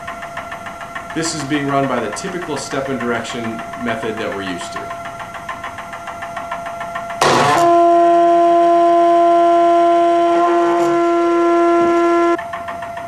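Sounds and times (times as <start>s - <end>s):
stalled motor whine: 0.0s - 13.0s
stepper motor ticking: 0.0s - 13.0s.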